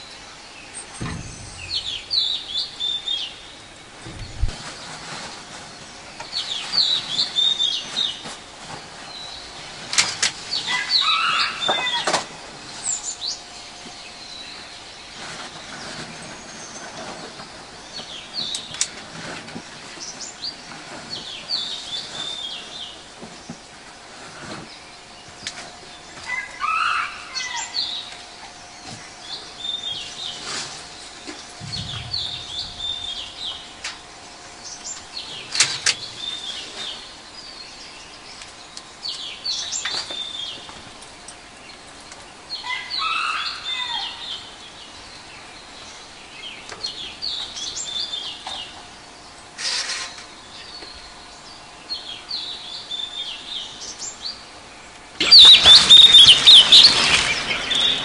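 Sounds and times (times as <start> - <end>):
birds chirping: 0.0 - 18.9, 24.4 - 58.0.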